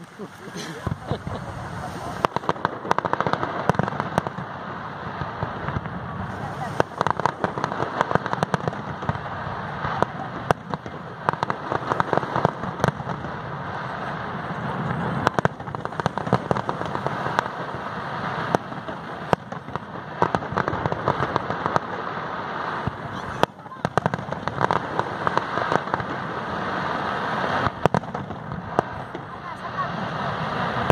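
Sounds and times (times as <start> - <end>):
fireworks crackling: 0.0 - 30.9
fireworks sharp bangs: 0.0 - 30.9.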